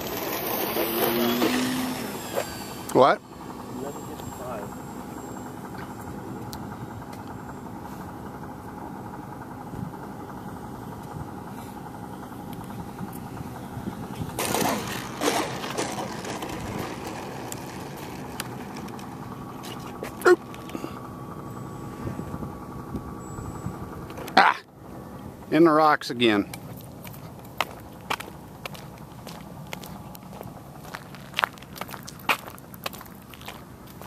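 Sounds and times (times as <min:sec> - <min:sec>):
airplane motor droning: 0:00.0 - 0:34.0.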